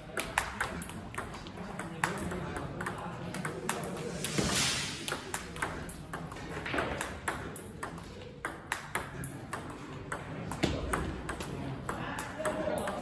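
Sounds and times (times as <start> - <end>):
ball bouncing on table: 0.2 - 13.0.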